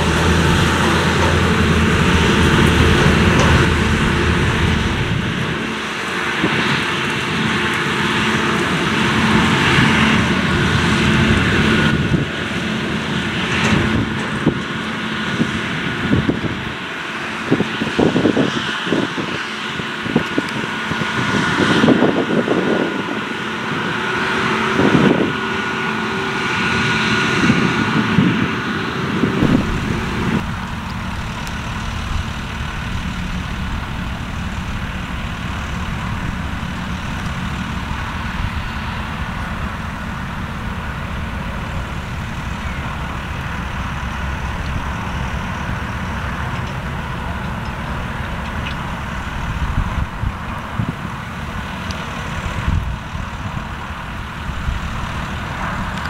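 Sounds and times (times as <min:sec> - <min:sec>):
farm machinery running: 0:00.0 - 0:56.0
tractor engine: 0:00.0 - 0:56.0
wind buffeting microphone: 0:00.0 - 0:56.0.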